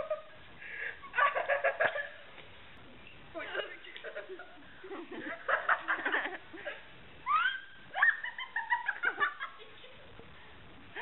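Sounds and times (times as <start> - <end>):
girls giggling and laughing: 0.0 - 2.3, 3.4 - 11.0.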